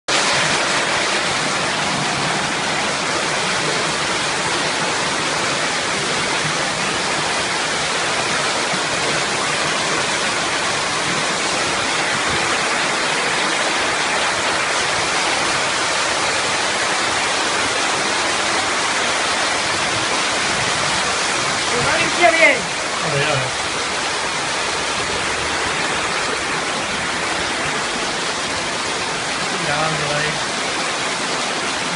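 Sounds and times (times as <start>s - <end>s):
floodwater rushing: 0.1s - 31.9s.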